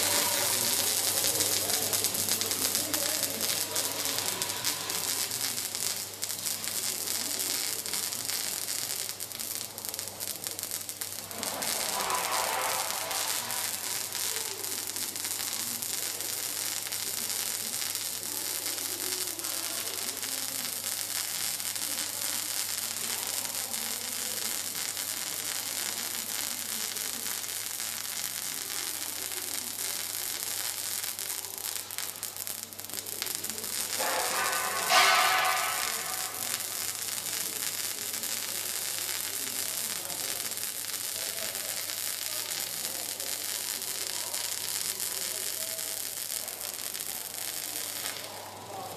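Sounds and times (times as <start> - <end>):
welding arc sizzling and crackling: 0.0 - 48.9.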